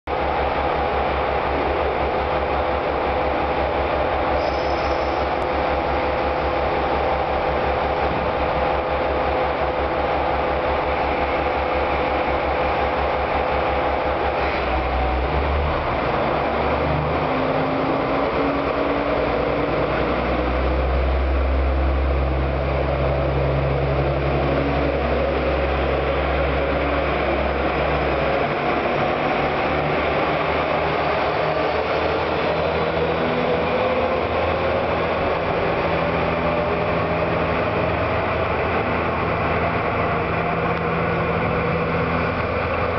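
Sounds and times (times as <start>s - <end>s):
diesel railcar engine: 0.0s - 42.9s.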